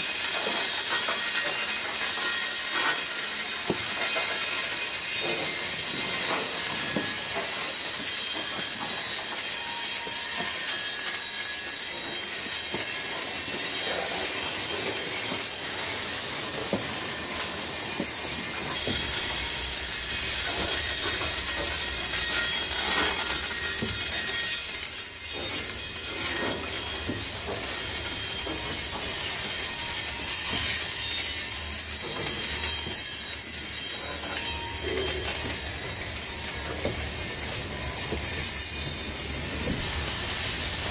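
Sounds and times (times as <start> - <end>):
steel wheels hissing on rail: 0.0 - 40.9.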